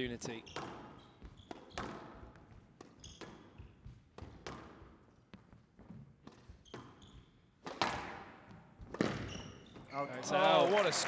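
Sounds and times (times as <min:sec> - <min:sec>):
shoes squeaking on court floor: 0:00.2 - 0:10.0
squash ball striking rackets and walls: 0:00.4 - 0:09.8.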